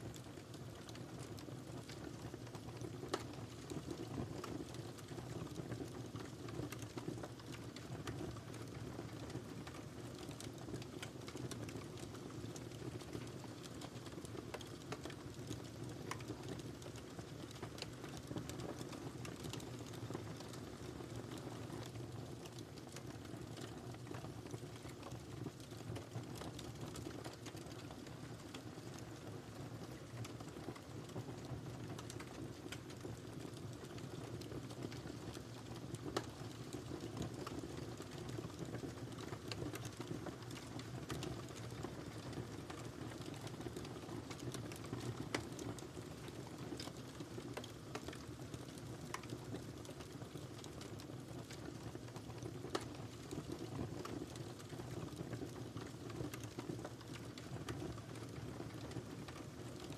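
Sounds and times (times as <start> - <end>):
fire crackling and snapping: 0.0 - 59.9
low rumble of flames: 0.1 - 59.9.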